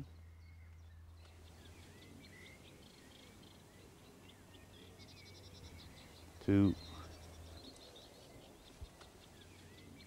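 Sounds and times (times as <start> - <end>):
low steady hum: 0.0 - 10.0
small birds chirping: 0.0 - 10.0.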